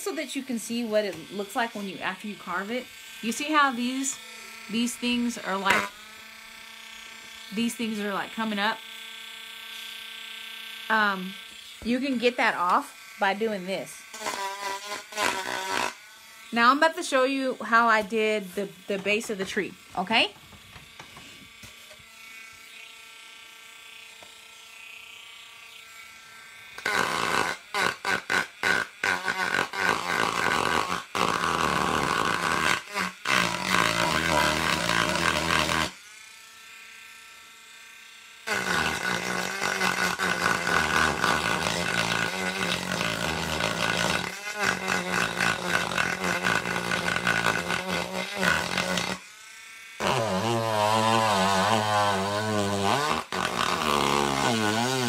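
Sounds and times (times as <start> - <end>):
rotary tool grinding wood: 0.0 - 55.0.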